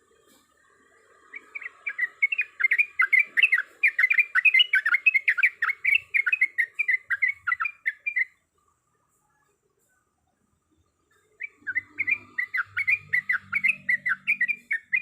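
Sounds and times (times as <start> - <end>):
bird singing bubbling song: 0.0 - 8.4, 10.7 - 15.0.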